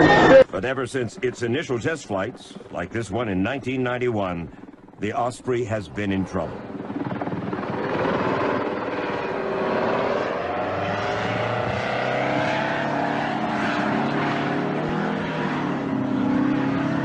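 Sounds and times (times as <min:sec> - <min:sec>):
tiltrotor aircraft engines roaring: 0:00.0 - 0:17.0.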